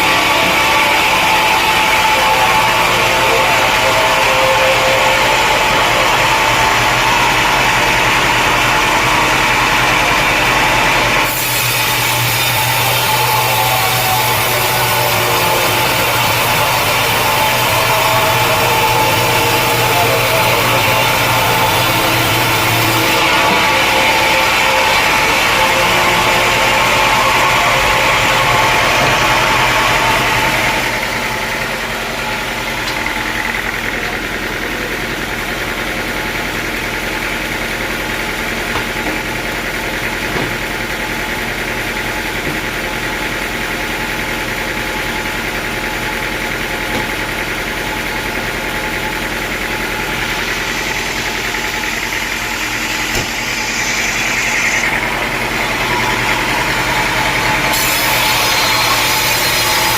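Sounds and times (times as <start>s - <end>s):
sawmill engine idling: 0.0s - 59.9s.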